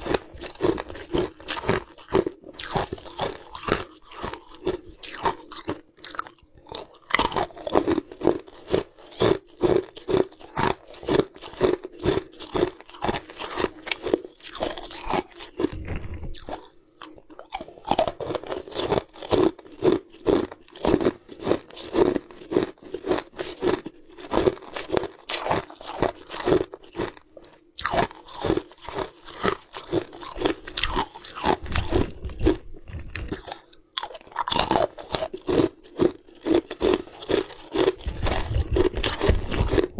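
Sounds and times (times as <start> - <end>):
crunching ice between teeth: 0.0 - 39.9.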